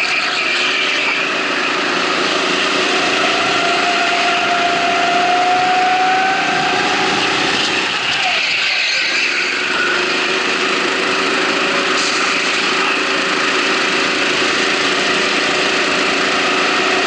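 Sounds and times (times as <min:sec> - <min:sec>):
go-kart engine running: 0:00.0 - 0:17.0
other karts passing: 0:00.0 - 0:17.0.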